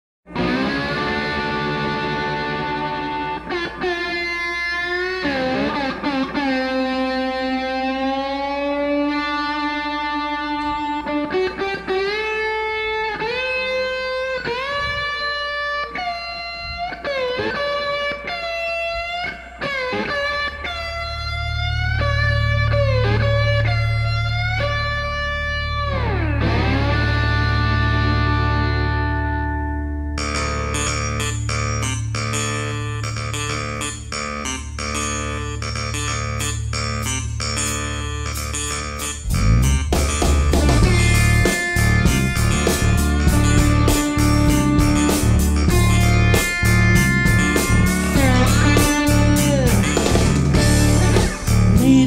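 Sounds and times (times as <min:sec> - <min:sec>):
bass line: 0:00.3 - 0:16.9, 0:19.8 - 0:52.0
electric guitar lead: 0:00.3 - 0:52.0.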